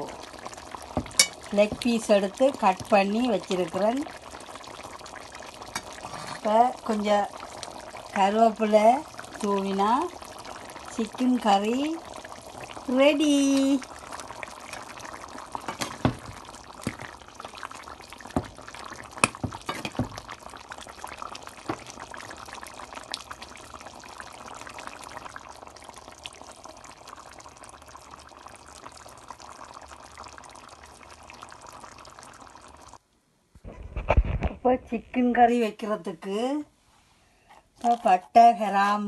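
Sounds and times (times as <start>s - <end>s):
bubbles popping: 0.0s - 33.0s
curry bubbling in a pot: 0.0s - 33.0s, 37.8s - 39.0s.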